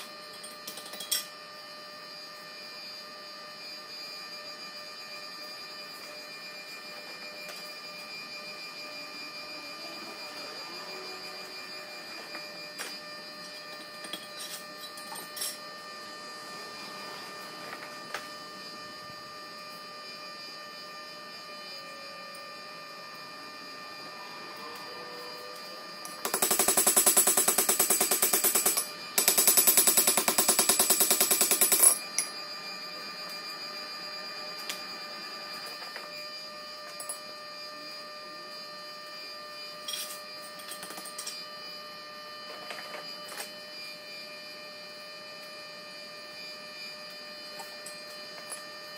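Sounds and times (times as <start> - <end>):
shop machinery hum: 0.0 - 48.9.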